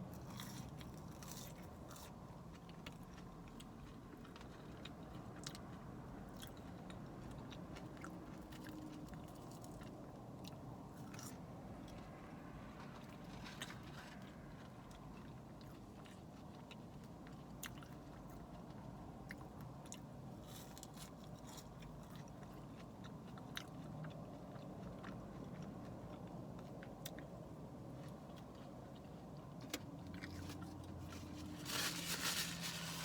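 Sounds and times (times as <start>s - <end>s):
chewing fries: 0.0s - 33.0s.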